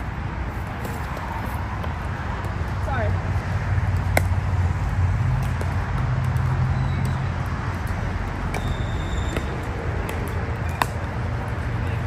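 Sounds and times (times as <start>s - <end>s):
low rumble of city traffic: 0.0s - 12.0s.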